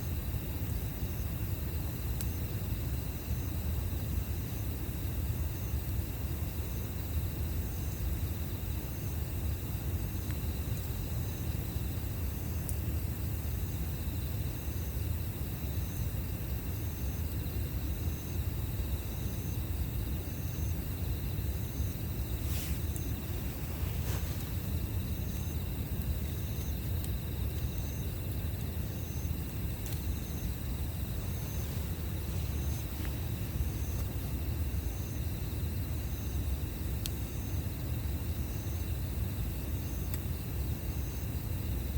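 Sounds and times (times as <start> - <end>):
insect chirping: 0.0 - 41.9
campfire crackling: 0.1 - 41.9.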